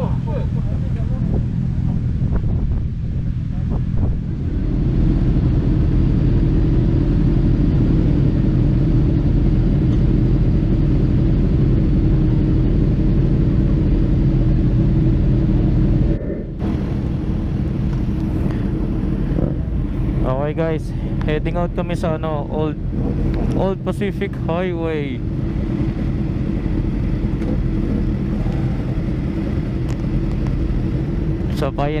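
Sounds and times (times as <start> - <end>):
motorcycle engines idling: 0.0 - 32.0.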